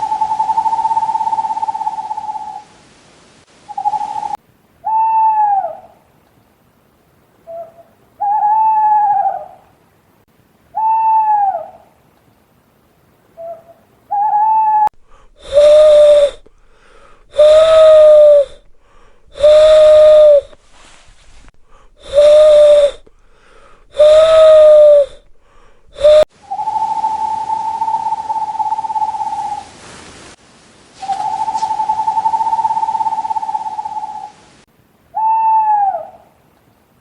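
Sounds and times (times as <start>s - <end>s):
owls hooting: 0.0s - 2.7s, 3.7s - 6.0s, 7.4s - 9.7s, 10.7s - 12.0s, 13.4s - 29.7s, 31.0s - 34.5s, 35.1s - 36.4s
high-pitched background hiss: 0.0s - 37.0s.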